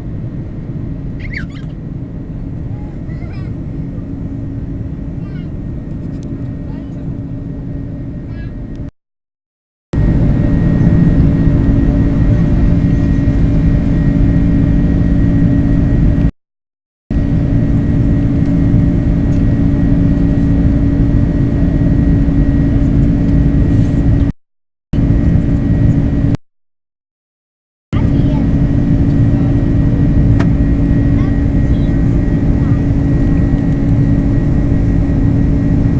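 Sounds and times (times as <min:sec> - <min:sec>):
airliner engines droning in cabin: 0:00.0 - 0:08.9, 0:10.0 - 0:16.3, 0:17.1 - 0:24.3, 0:25.0 - 0:26.4, 0:27.9 - 0:35.9.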